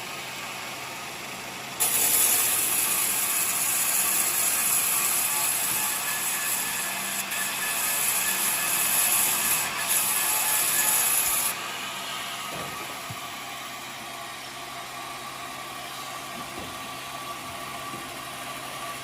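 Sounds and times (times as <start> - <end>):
sawmill engine humming: 0.0 - 7.0, 7.9 - 19.0
sawmill blade hissing: 1.7 - 19.0.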